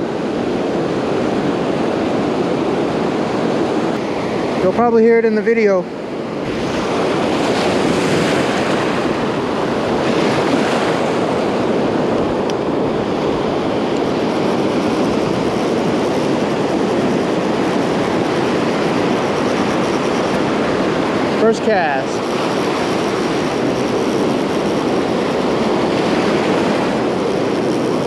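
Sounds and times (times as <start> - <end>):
ocean waves breaking: 0.0 - 28.0
wind buffeting microphone: 0.0 - 28.0.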